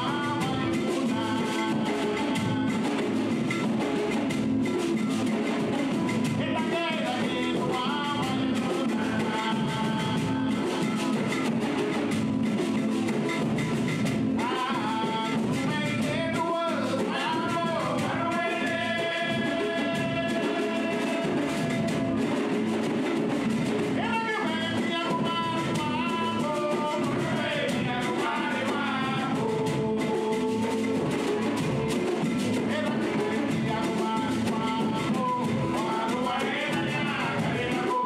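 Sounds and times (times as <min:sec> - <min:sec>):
man singing: 0:00.0 - 0:12.1, 0:14.3 - 0:22.8, 0:23.6 - 0:38.0
hand drums: 0:00.0 - 0:38.0
strummed acoustic guitar: 0:00.0 - 0:38.0.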